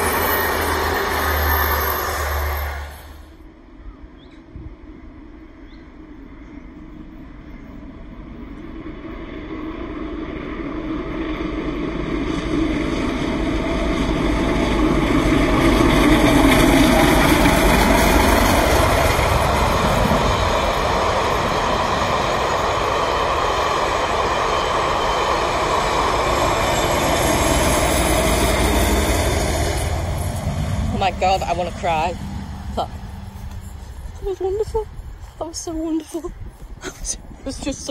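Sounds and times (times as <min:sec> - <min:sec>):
steam locomotive working: 0:00.0 - 0:03.5, 0:07.0 - 0:37.9
train wheels on rails: 0:00.0 - 0:03.5, 0:07.0 - 0:37.9.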